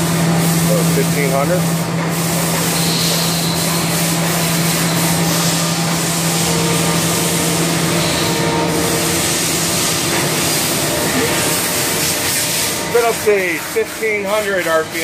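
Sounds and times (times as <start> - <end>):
lathe spindle whirring: 0.0 - 15.0.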